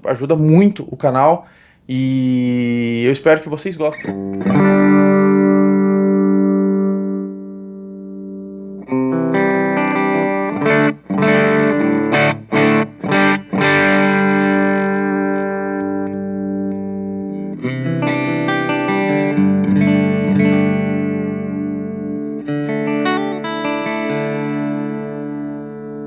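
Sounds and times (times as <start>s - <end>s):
electric guitar chords: 4.0s - 26.0s.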